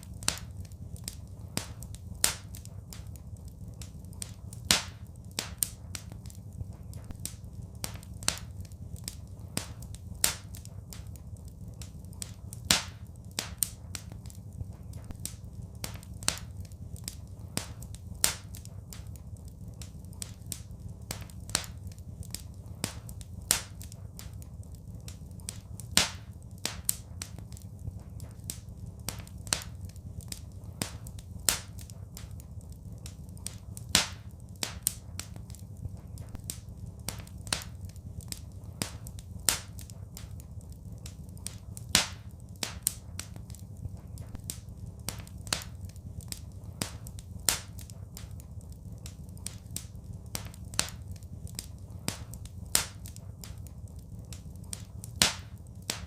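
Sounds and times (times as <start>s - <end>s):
low rumble of fire: 0.0s - 56.0s
wood fire crackling: 0.0s - 56.0s.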